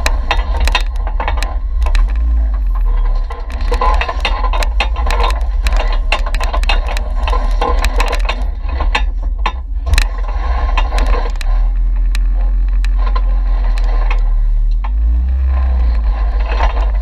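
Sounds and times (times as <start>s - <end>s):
deep rumble: 0.0s - 17.0s
low engine drone: 0.0s - 17.0s
vehicle jolting over rocks: 0.0s - 17.0s.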